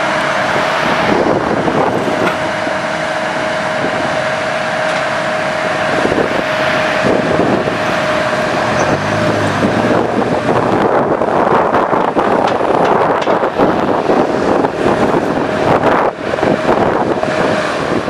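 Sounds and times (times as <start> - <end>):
excavator diesel engine running: 0.0 - 18.0
steady high whine: 0.0 - 18.0
wind buffeting microphone: 0.0 - 18.0.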